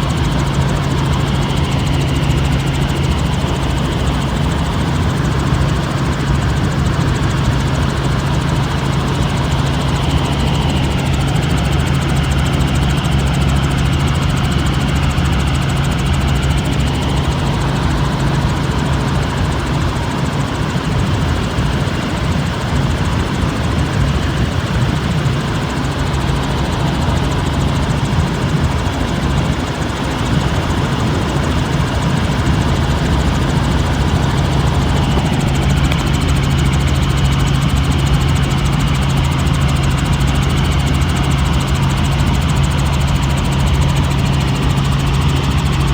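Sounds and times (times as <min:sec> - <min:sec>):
helicopter engine and rotor: 0:00.0 - 0:45.9.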